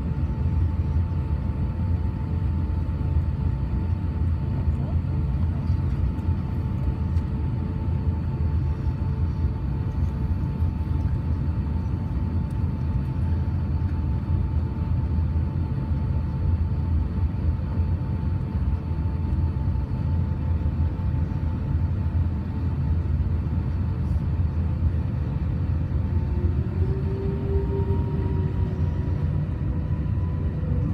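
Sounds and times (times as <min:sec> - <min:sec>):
airliner low rumble: 0:00.0 - 0:30.9
faint steady whine: 0:00.0 - 0:30.9.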